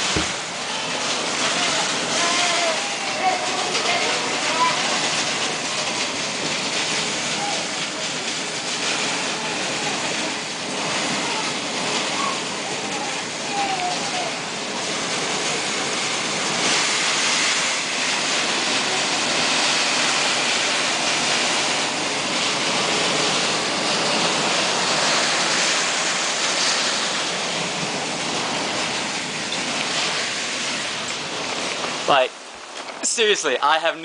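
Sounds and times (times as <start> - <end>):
heavy rain and hail: 0.0 - 34.0.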